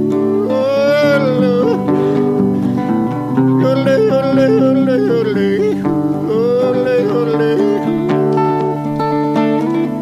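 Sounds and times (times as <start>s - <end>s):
acoustic guitar strumming: 0.0s - 10.0s
wordless melody line: 0.0s - 10.0s.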